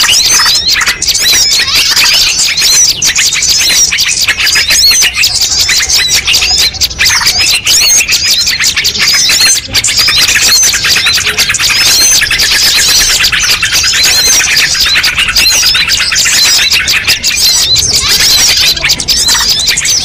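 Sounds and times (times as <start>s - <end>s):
songbirds chirping and twittering: 0.0s - 20.0s.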